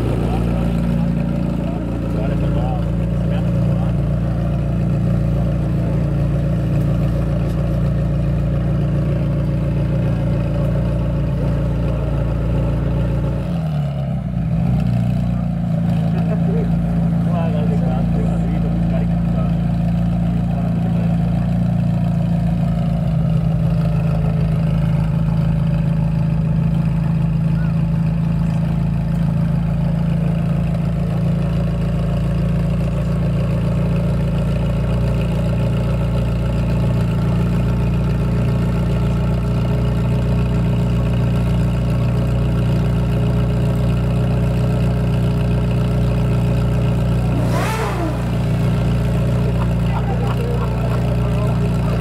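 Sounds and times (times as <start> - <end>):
sports car engine idling: 0.0 - 52.0.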